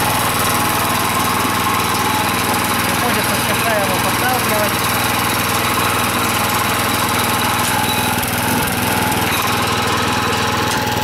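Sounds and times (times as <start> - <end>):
walk-behind tractor engine running: 0.0 - 11.0.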